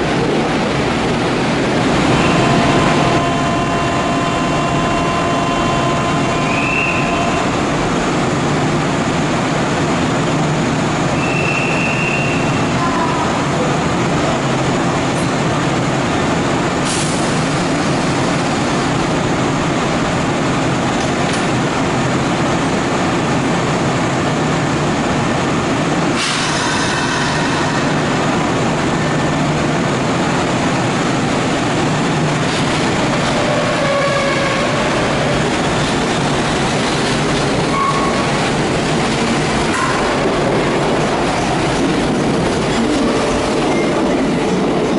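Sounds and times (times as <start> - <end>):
electric train running noise: 0.0 - 44.9.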